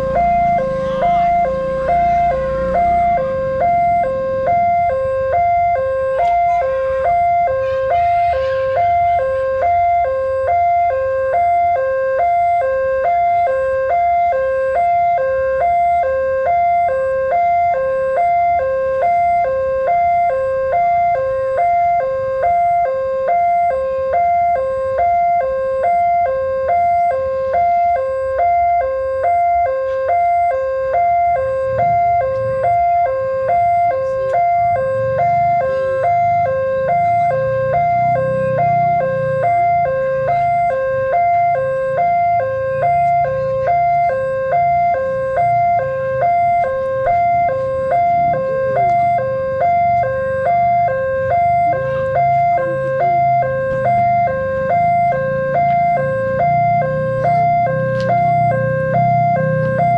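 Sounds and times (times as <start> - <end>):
level crossing two-tone siren: 0.0 - 59.9.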